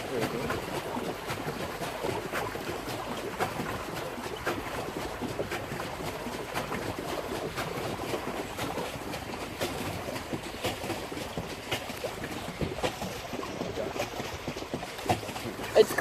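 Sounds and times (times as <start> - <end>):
paddle wheel splashing: 0.0 - 16.0.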